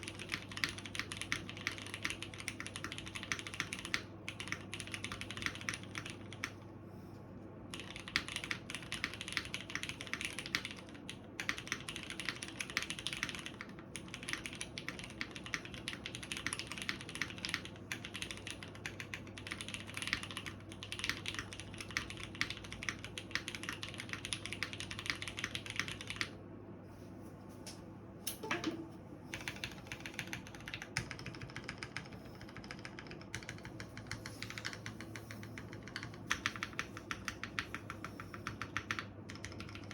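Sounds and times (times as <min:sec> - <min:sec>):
mechanical keyboard typing: 0:00.0 - 0:06.6, 0:07.7 - 0:26.4, 0:29.3 - 0:39.9.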